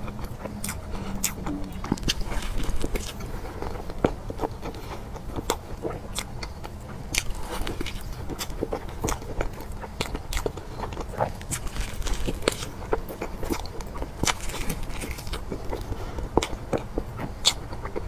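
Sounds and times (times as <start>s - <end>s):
person chewing soft cake: 0.0s - 18.0s.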